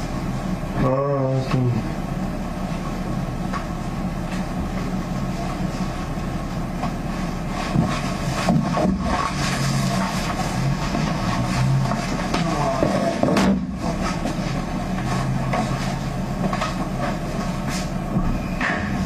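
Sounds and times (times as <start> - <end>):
low hum and rumble: 0.0 - 19.0.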